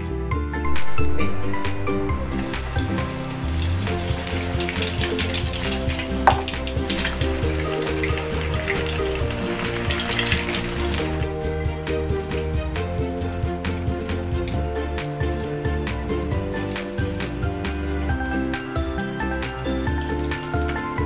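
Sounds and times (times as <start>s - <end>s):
oil sizzling and crackling: 0.7s - 21.0s.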